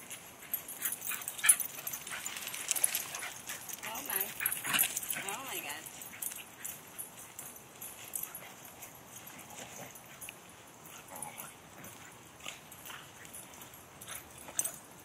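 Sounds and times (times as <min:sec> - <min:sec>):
dogs scuffling: 0:00.0 - 0:15.0.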